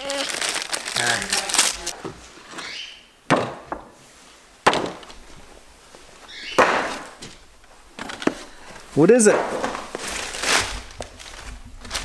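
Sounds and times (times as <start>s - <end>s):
rustling of box contents: 0.0s - 2.7s, 5.0s - 12.0s.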